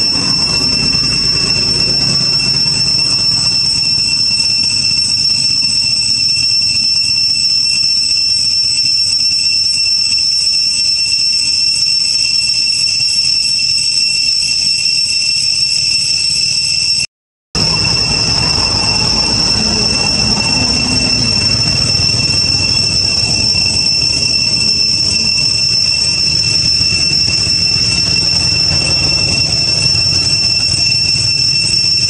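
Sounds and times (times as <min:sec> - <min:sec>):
cicada drone: 0:00.0 - 0:17.0, 0:17.6 - 0:32.0.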